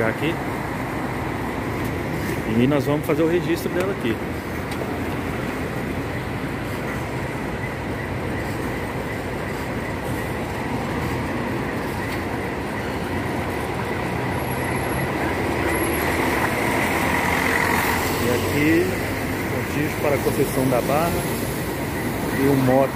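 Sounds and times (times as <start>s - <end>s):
bus diesel engine rumbling: 0.0s - 22.9s.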